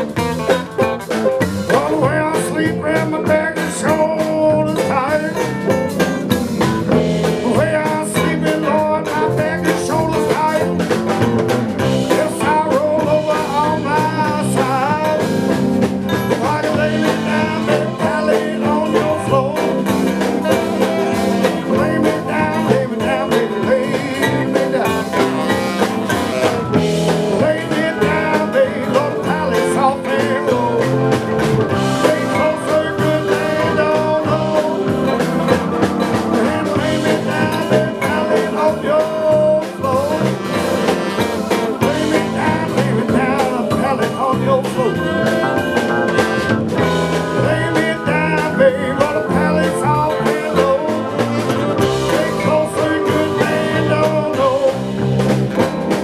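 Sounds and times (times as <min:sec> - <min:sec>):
band playing blues folk song: 0:00.0 - 0:56.0.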